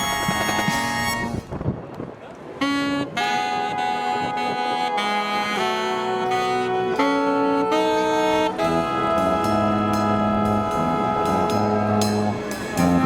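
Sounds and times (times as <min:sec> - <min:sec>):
marching band slow melody: 0:00.0 - 0:01.4, 0:03.0 - 0:13.0.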